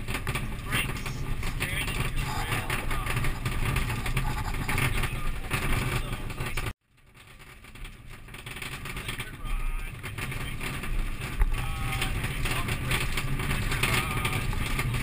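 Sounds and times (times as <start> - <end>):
tyres on loose gravel: 0.0 - 15.0.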